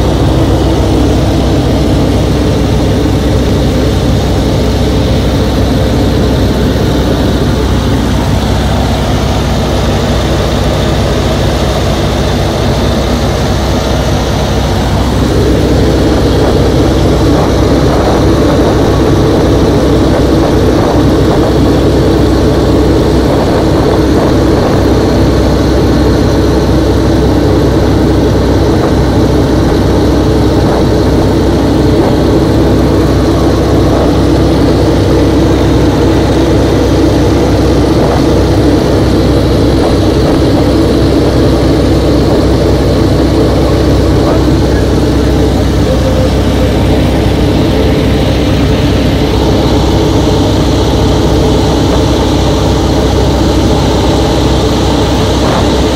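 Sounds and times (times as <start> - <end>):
radial aircraft engine droning: 0.0 - 55.9.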